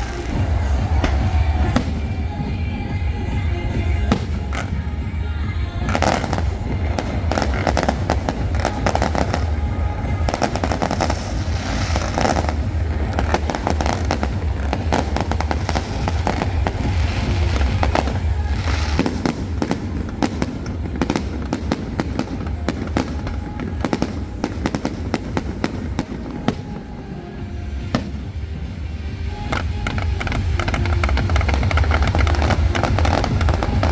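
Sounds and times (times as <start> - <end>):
fireworks bursting and crackling: 0.0 - 33.9
music with heavy bass: 0.0 - 33.9.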